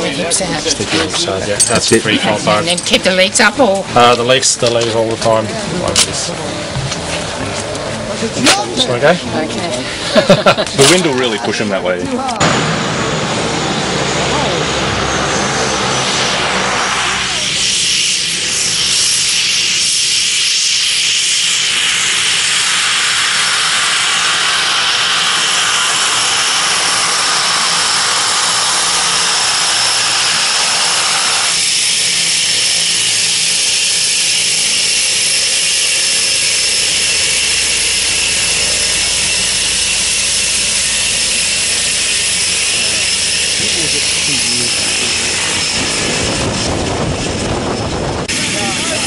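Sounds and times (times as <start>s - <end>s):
turboprop engine whine: 0.0s - 49.0s.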